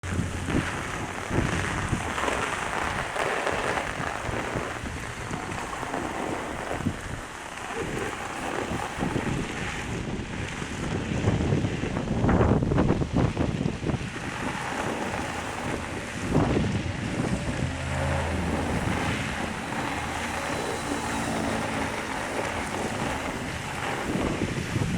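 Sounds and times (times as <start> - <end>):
steady rain: 0.0 - 24.9
wind buffeting microphone: 0.0 - 24.9.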